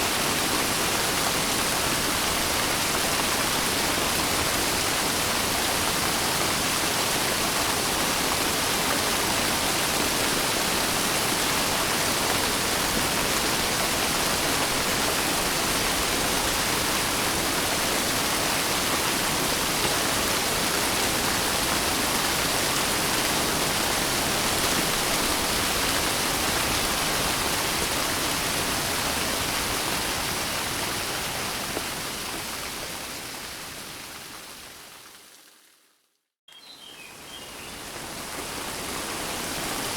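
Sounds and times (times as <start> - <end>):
heavy rain: 0.0 - 34.4.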